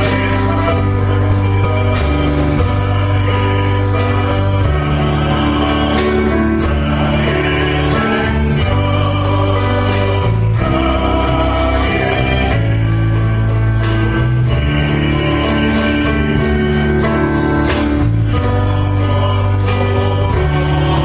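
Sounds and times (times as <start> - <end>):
group singing worship song: 0.0 - 21.0
instrumental accompaniment with beat: 0.0 - 21.0.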